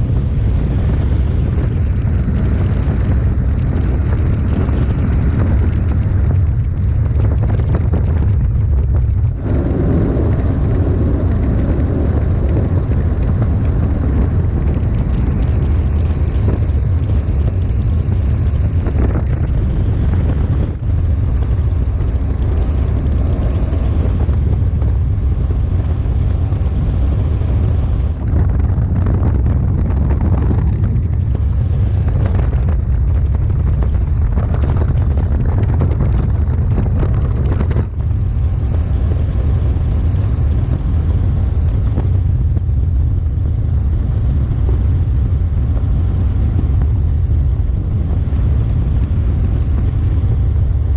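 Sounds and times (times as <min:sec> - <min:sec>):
helicopter rotor and engine drone: 0:00.0 - 0:50.9
wind buffeting microphone: 0:00.0 - 0:50.9.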